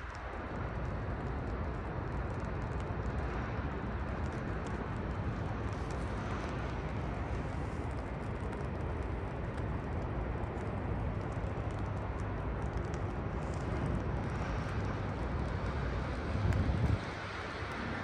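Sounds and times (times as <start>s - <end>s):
raindrops ticking: 0.0s - 18.0s
traffic rumble: 0.0s - 18.0s.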